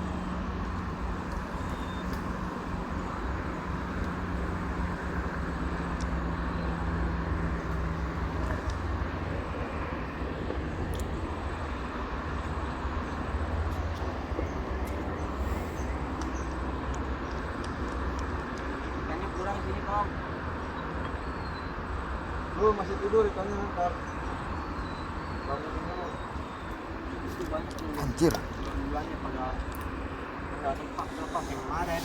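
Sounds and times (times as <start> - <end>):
low engine hum: 0.0 - 32.0
road traffic rumble and hiss: 0.0 - 32.0.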